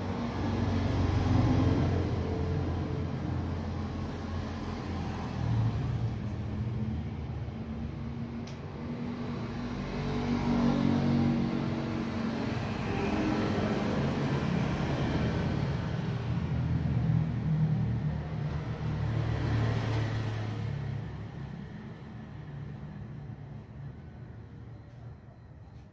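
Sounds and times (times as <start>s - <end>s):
engine rumbling: 0.0s - 25.9s.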